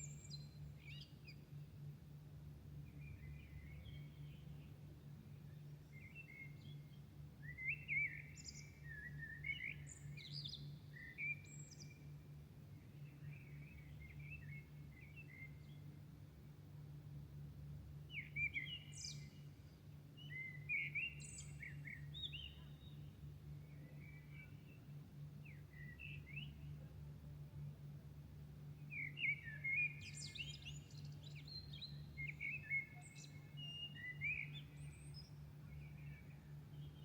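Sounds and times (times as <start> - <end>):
songbirds singing: 0.0 - 1.9, 2.7 - 16.0, 18.1 - 28.0, 28.6 - 37.0.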